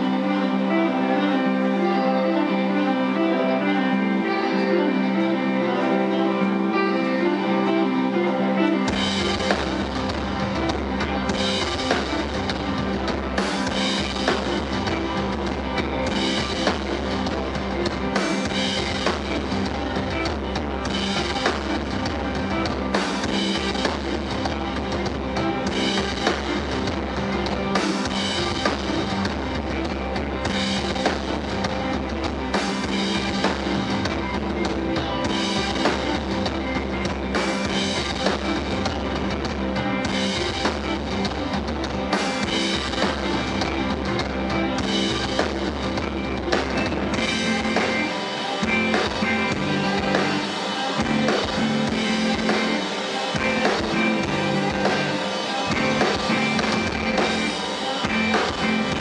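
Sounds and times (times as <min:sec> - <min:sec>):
bass guitar: 0:00.0 - 0:59.0
electric guitars: 0:00.0 - 0:59.0
drum kit: 0:06.8 - 0:59.0.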